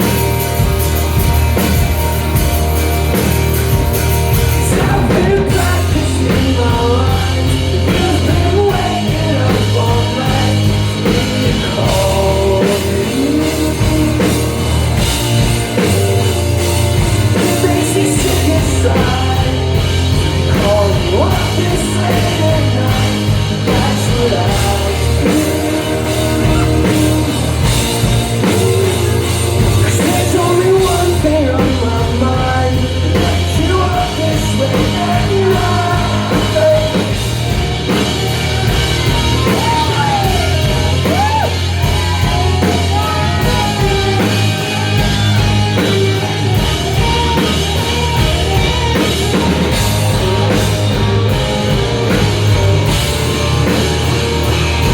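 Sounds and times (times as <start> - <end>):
rock band playing live: 0.0 - 54.9
person singing: 4.2 - 53.8.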